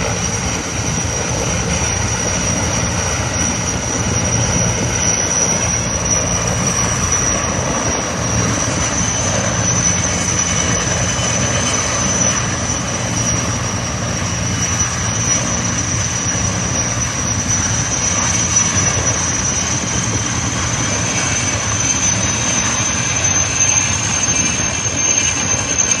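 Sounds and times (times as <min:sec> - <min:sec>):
helicopter running: 0:00.0 - 0:26.0.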